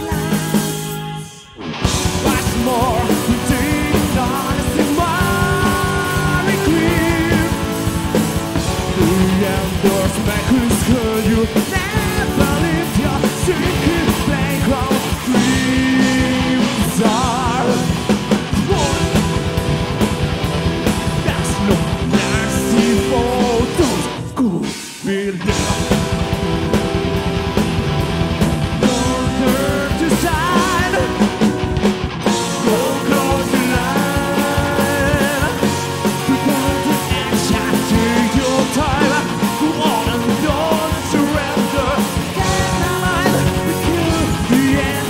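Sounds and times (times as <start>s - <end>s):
metal band playing live: 0.0s - 45.0s.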